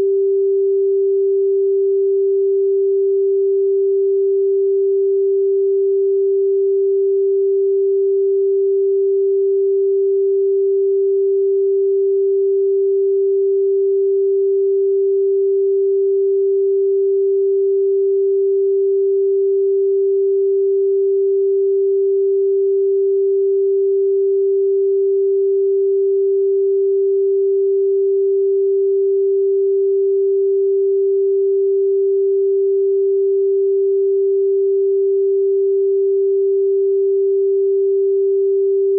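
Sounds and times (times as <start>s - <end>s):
pure sine-wave tone: 0.0s - 38.9s.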